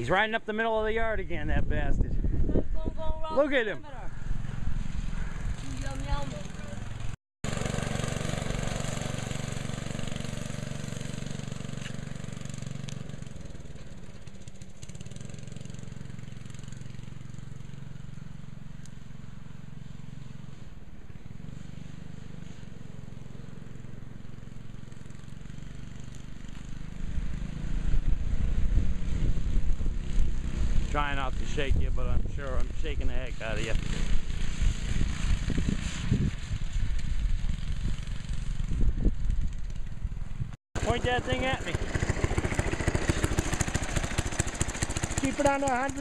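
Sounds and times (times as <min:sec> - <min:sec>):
go-kart engine running: 0:03.0 - 0:46.0.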